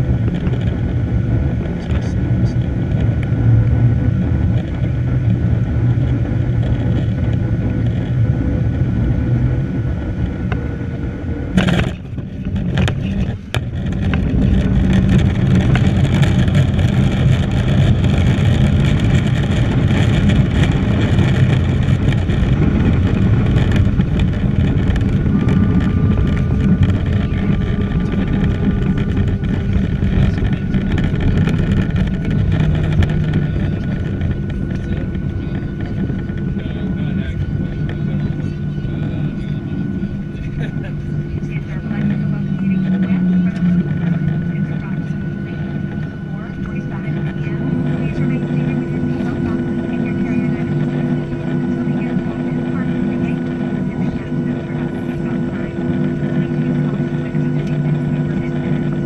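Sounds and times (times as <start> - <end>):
airplane engine and airflow noise: 0.0 - 59.0
jet rolling out and braking: 0.0 - 59.0.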